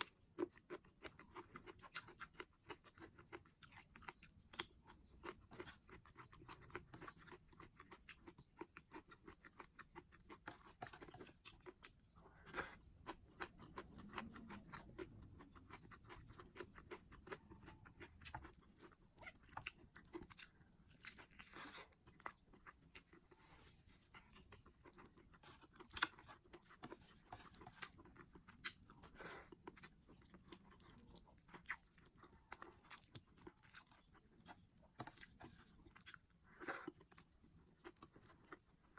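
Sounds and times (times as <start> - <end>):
chewing and mouth clicks: 0.0 - 38.9.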